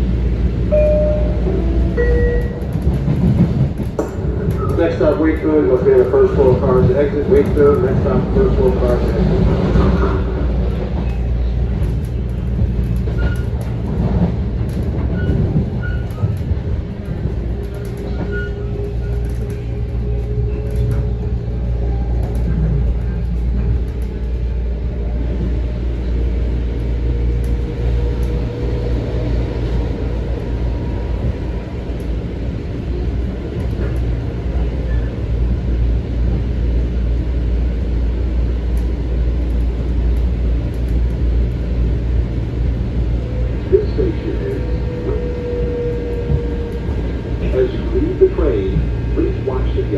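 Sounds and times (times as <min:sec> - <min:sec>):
railcar rumble on track: 0:00.0 - 0:49.9.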